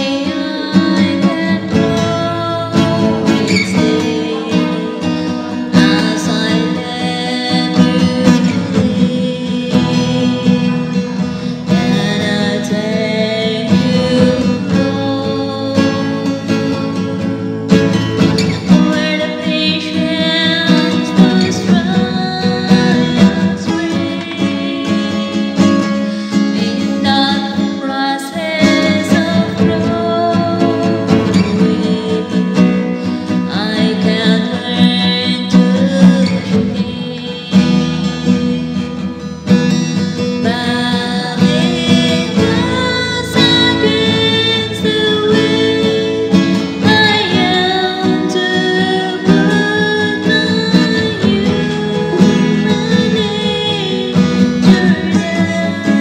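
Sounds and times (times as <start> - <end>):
acoustic guitar chords: 0.0 - 56.0
woman singing: 0.0 - 56.0.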